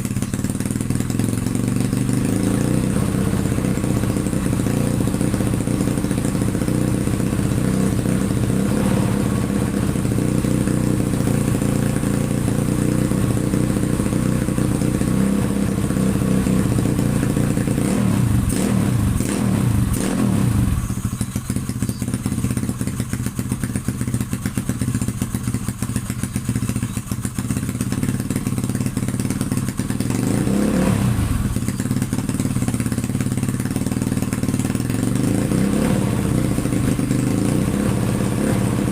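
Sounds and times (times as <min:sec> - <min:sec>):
vehicle engine idling and revving: 0:00.0 - 0:38.9.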